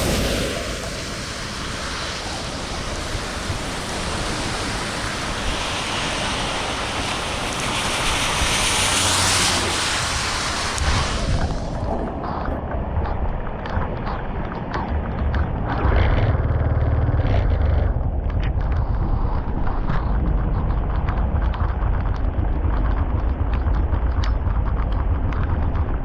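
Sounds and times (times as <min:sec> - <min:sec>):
floodwater rushing through culvert: 0:00.0 - 0:26.0
wind buffeting microphone: 0:00.0 - 0:26.0.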